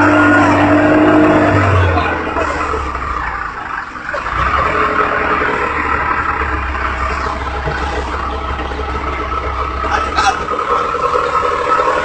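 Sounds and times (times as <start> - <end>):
road and wind noise: 0.0 - 12.0
vehicle engine drone: 0.0 - 12.0.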